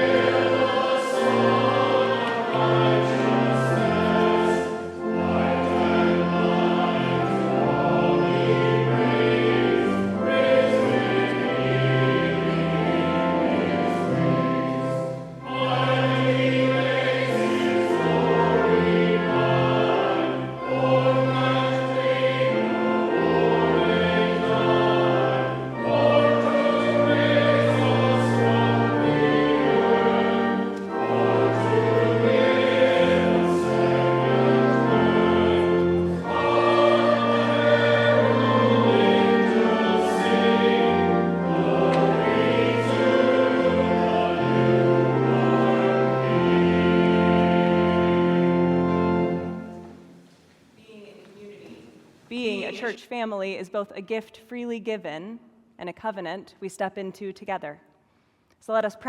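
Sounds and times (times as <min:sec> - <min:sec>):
choir singing a hymn: 0:00.0 - 0:50.2, 0:52.3 - 0:53.0
instrumental accompaniment: 0:00.0 - 0:50.5.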